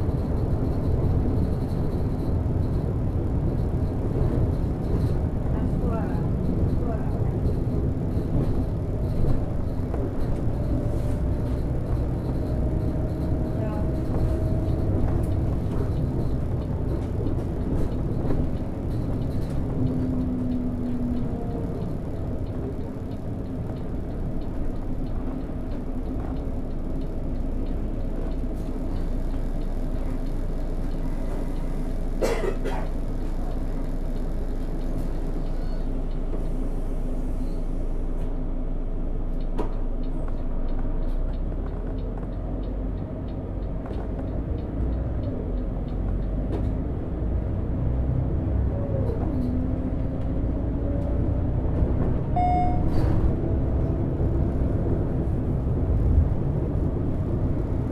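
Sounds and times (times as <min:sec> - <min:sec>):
bus diesel engine running: 0:00.0 - 0:57.9
road noise: 0:00.0 - 0:57.9.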